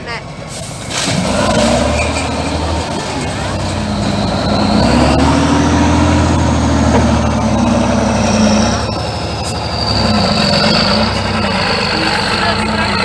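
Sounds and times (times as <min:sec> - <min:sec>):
truck diesel engine revving: 0:00.0 - 0:13.0.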